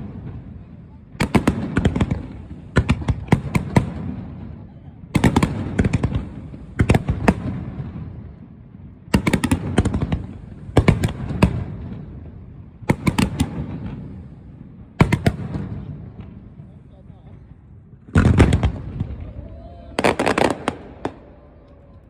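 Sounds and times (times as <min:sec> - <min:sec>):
fireworks bursting with rumble: 0:00.0 - 0:22.0.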